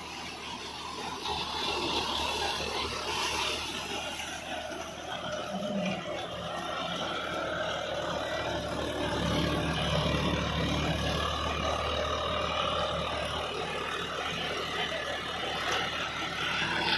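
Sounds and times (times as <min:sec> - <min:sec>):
rotavator blades churning soil: 0:00.0 - 0:16.9
tractor diesel engine running: 0:00.0 - 0:16.9.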